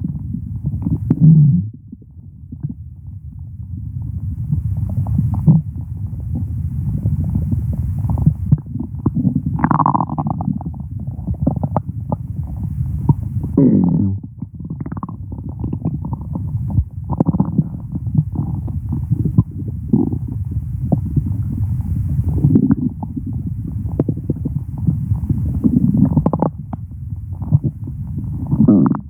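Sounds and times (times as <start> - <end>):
stomach growling: 0.0 - 29.0.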